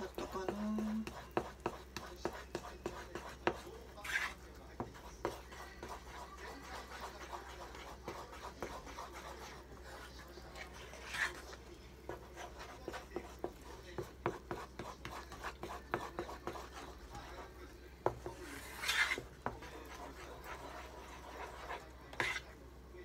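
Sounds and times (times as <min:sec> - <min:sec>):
spatula scraping pan: 0:00.0 - 0:22.6
wooden spatula stirring batter: 0:00.0 - 0:23.0.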